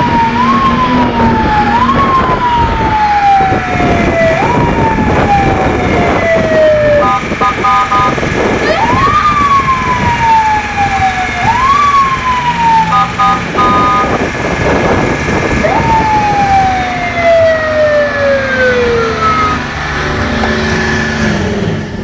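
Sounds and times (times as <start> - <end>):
fire engine siren wailing: 0.0 - 22.0
wind: 0.0 - 22.0.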